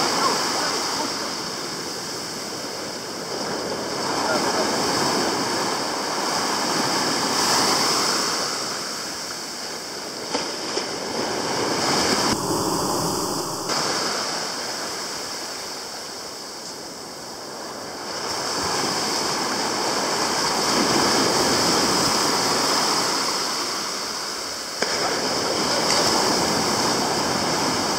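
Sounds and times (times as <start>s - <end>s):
ocean surf breaking on beach: 0.0s - 27.9s.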